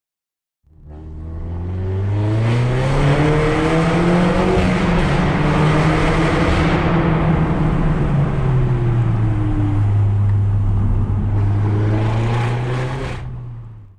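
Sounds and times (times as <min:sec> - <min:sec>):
car engine drone from cabin: 0:00.7 - 0:13.9
road noise: 0:00.7 - 0:13.9.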